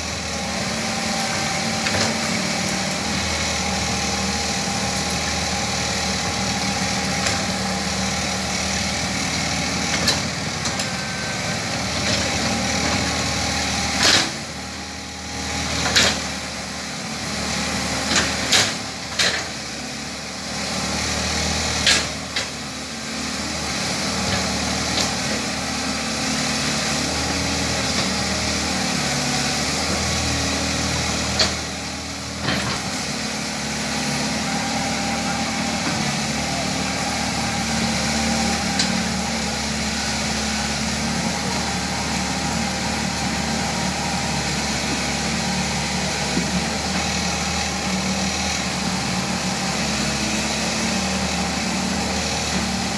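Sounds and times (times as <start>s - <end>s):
excavator diesel engine working: 0.0s - 52.9s.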